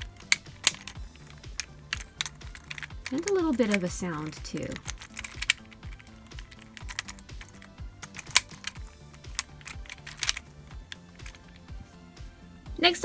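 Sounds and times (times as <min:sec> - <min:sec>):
plastic fidget cube clicking: 0:00.0 - 0:11.7
soft background music: 0:00.0 - 0:13.0.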